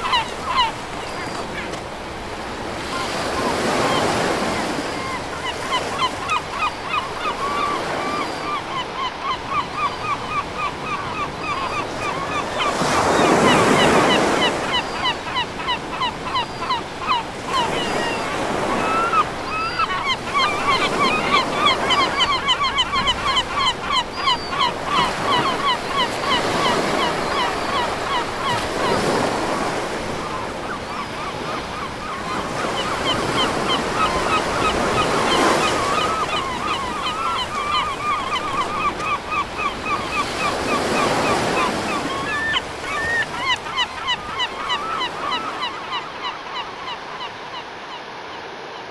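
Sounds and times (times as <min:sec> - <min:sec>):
ocean surf breaking: 0:00.0 - 0:09.0, 0:09.6 - 0:24.1, 0:24.7 - 0:48.9.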